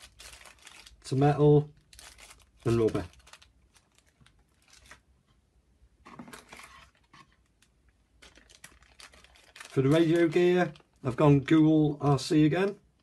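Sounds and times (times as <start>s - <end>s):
plastic bag crinkling: 0.0s - 5.1s, 6.1s - 12.2s.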